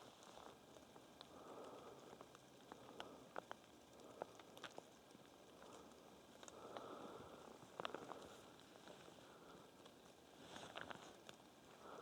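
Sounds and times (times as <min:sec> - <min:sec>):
faint rain in forest: 0:00.0 - 0:12.0.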